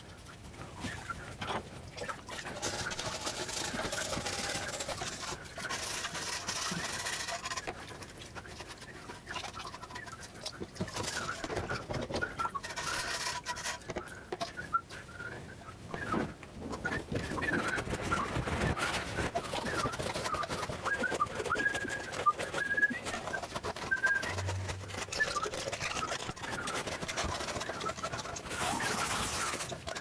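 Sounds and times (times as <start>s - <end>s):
rubber glove squeaks: 0.8s - 30.0s
scrubbing plastic: 0.8s - 30.0s.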